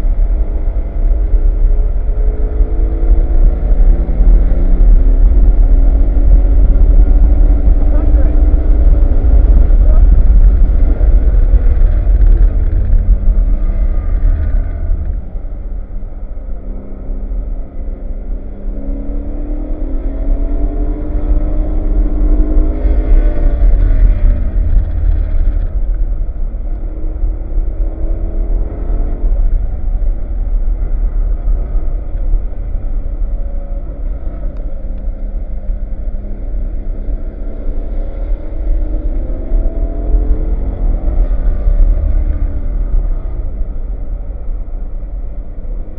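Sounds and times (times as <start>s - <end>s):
car engine accelerating: 0.0s - 45.9s
low rumble: 0.0s - 45.9s.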